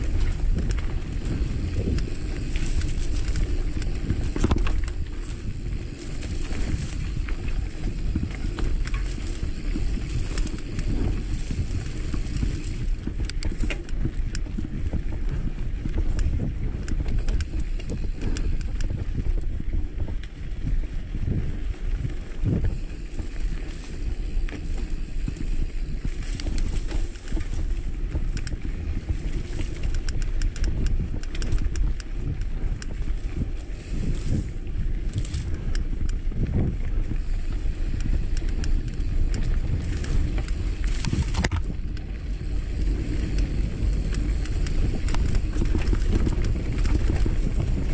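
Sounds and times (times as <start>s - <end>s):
bike clicks and rattles: 0.0s - 47.9s
bike tyres rumbling on dirt: 0.0s - 47.9s
wind on microphone: 0.0s - 47.9s.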